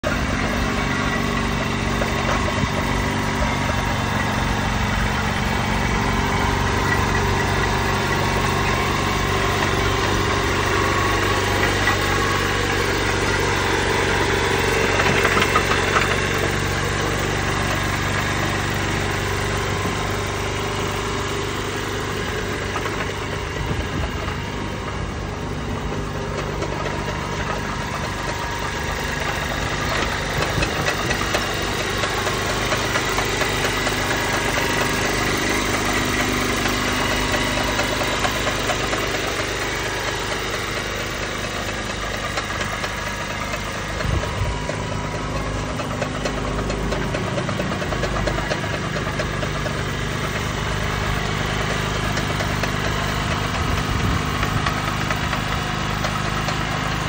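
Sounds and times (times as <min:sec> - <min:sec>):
crane engine idling: 0:00.0 - 0:57.0.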